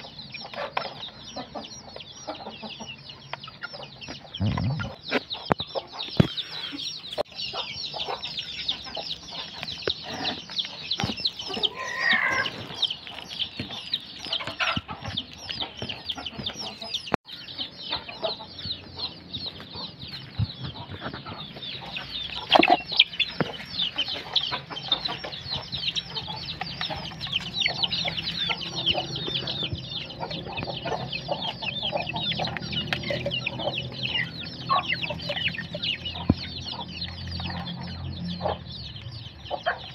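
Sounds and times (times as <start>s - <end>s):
chicken clucking: 0.0s - 39.9s
chicks peeping: 0.0s - 39.9s.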